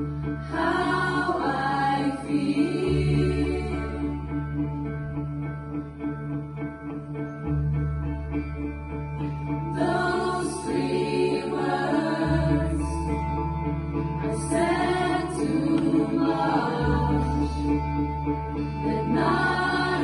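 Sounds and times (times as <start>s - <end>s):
choir singing slow song: 0.0s - 5.5s, 9.2s - 20.0s
low held notes: 0.0s - 20.0s.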